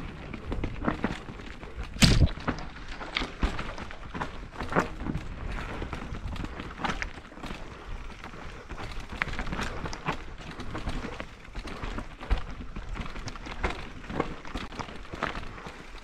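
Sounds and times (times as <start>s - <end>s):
bike clicks and rattles: 0.0s - 16.0s
bike tyres rushing on dirt: 0.0s - 16.0s.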